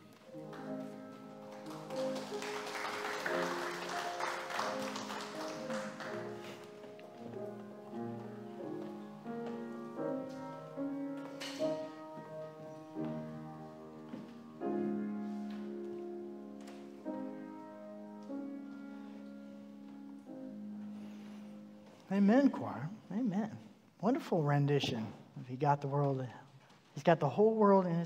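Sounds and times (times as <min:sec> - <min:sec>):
piano playing slow chords: 0:00.0 - 0:23.1.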